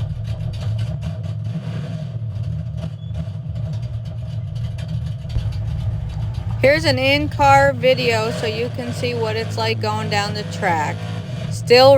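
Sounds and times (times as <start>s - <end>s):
race car engine rumbling: 0.0s - 11.9s.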